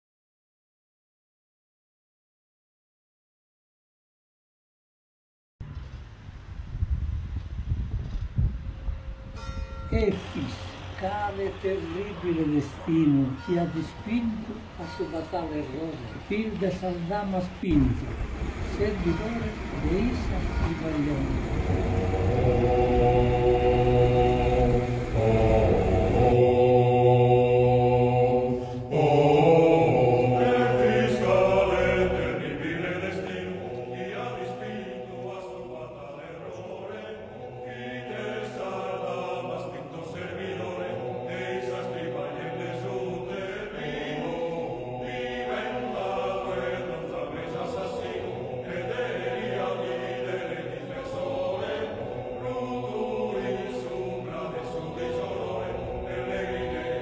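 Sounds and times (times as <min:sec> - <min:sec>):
choir singing sustained chords: 0:09.2 - 0:57.0.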